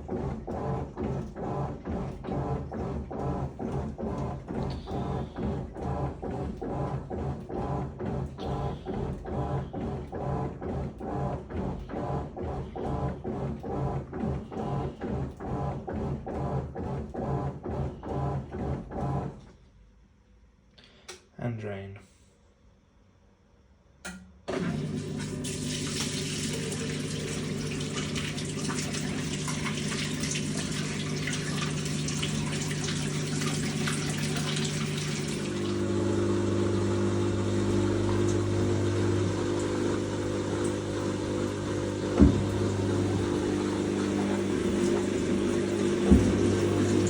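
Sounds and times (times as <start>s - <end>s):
water being pumped out: 0.0s - 19.4s, 24.5s - 47.0s
washing machine drain pump humming: 0.0s - 19.5s, 24.5s - 47.0s.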